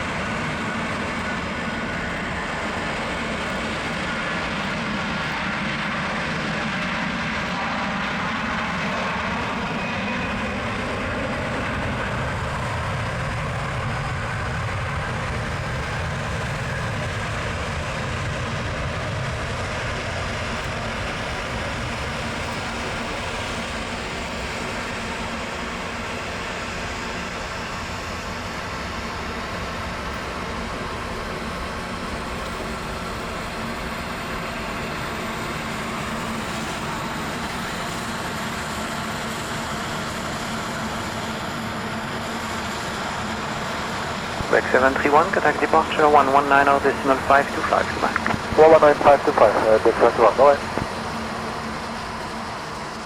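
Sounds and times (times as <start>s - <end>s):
jet engine whine: 0.0s - 53.0s
jet engines at takeoff: 0.0s - 53.0s.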